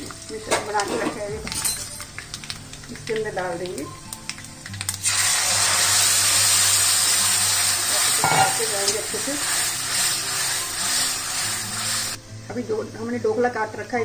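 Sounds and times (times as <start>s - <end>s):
liquid sizzling in hot oil: 0.0s - 12.2s.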